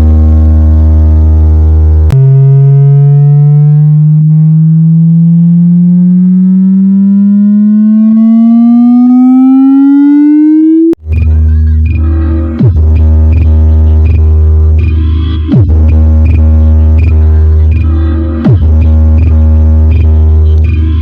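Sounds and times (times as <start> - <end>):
bass-heavy electronic music: 0.0 - 21.0
buzzy rising electronic tone: 0.0 - 21.0.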